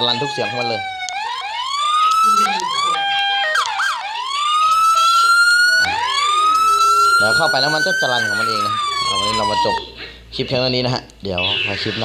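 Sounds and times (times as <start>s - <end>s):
electronic siren tones: 0.0s - 10.0s, 11.4s - 12.0s.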